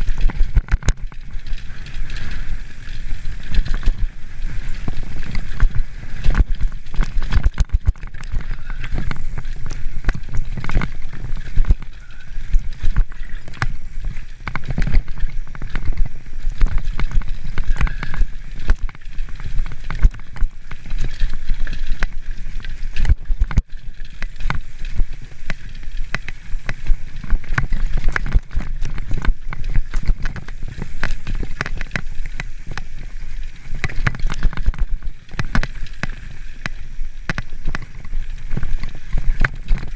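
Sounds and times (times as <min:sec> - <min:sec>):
bike rattling over bumps: 0:00.0 - 0:39.9.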